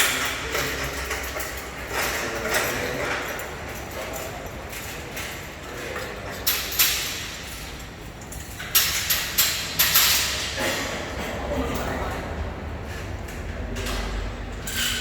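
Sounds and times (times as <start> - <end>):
scaffolding parts knocking and clanking: 0.0 - 15.0.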